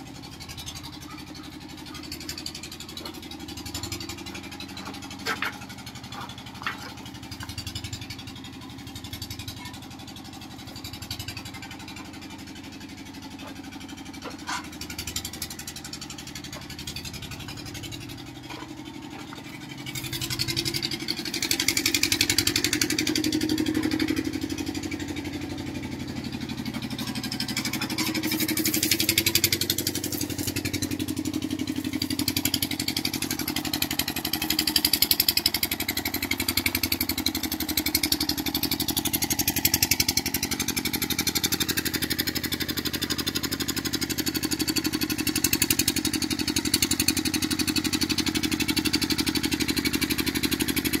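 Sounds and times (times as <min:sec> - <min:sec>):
engine running: 0:00.0 - 0:51.0.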